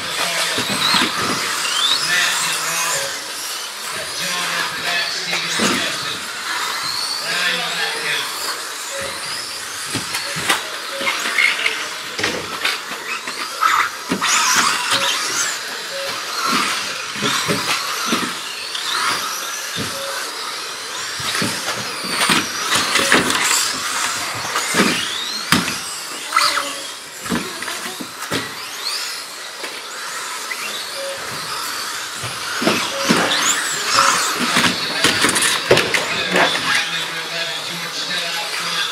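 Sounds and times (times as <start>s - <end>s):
toy car motors whining: 0.0s - 38.9s.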